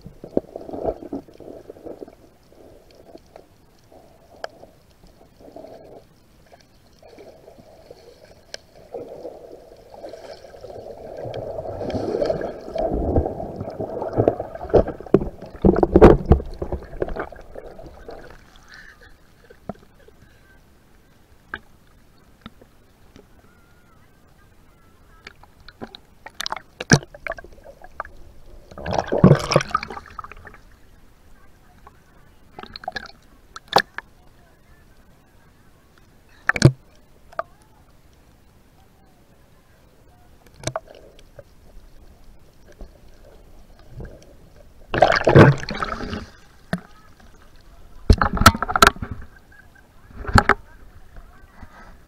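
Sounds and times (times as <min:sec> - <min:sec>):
sea water splashing: 0:00.0 - 0:20.6, 0:23.3 - 0:52.0.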